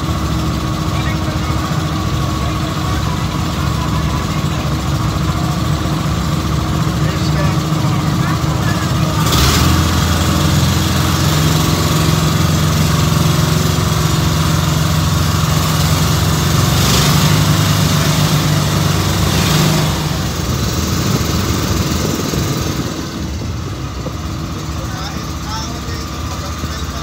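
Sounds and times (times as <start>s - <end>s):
boat engine humming: 0.0s - 27.0s
constant rushing noise: 0.0s - 27.0s.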